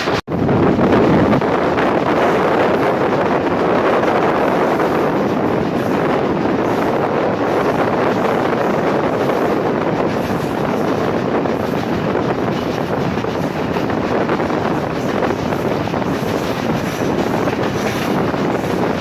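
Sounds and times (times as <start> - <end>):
train wheels on rails: 0.0 - 19.0
wind buffeting microphone: 0.0 - 19.0.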